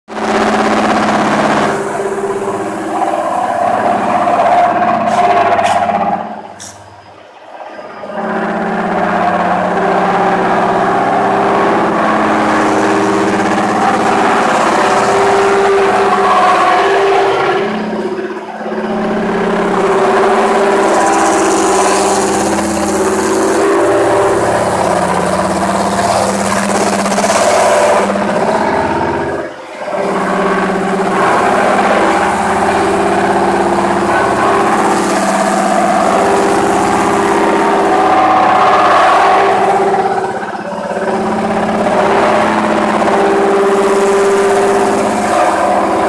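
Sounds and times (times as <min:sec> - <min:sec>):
motors humming: 0:00.1 - 0:46.0.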